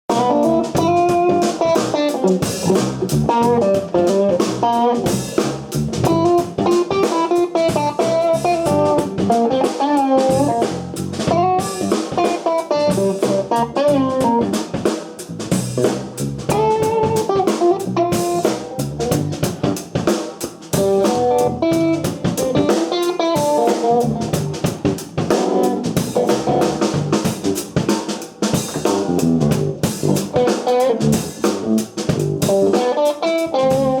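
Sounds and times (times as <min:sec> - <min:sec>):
drum kit: 0:00.0 - 0:34.0
electric guitar lead: 0:00.1 - 0:34.0.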